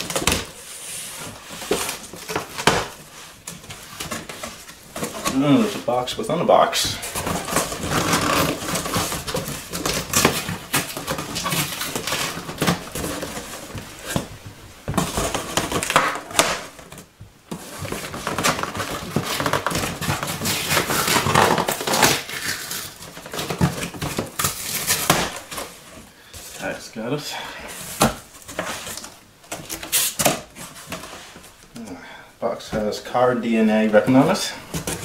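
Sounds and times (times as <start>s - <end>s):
cardboard scraping and rustling: 0.0s - 26.8s, 27.6s - 31.6s, 33.9s - 35.0s.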